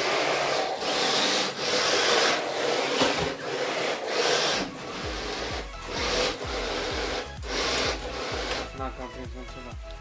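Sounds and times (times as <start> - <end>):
toy car motor whirring: 0.0 - 8.8
tyres scrubbing on wooden boards: 0.0 - 8.8.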